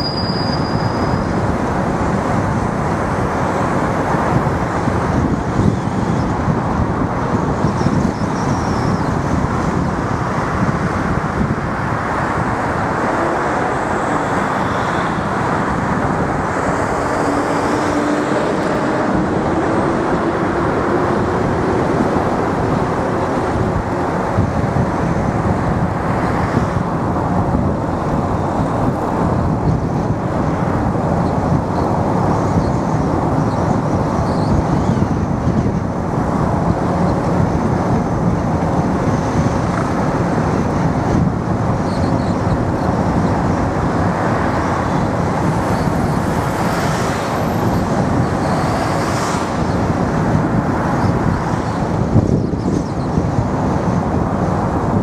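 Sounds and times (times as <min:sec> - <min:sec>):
car road noise: 0:00.0 - 0:55.0.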